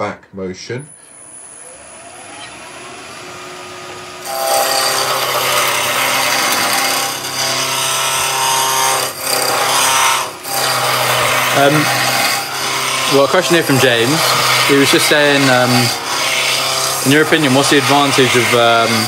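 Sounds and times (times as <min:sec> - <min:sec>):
wood lathe spinning up: 0:00.9 - 0:19.0.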